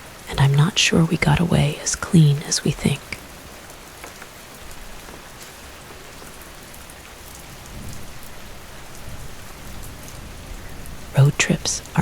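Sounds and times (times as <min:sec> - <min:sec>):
raindrop ticks: 0:00.0 - 0:12.0
steady rain falling: 0:00.0 - 0:12.0.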